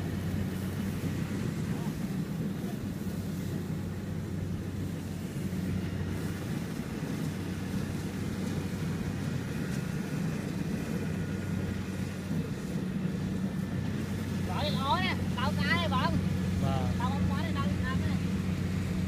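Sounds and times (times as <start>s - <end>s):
combine harvester diesel engine: 0.0s - 19.0s.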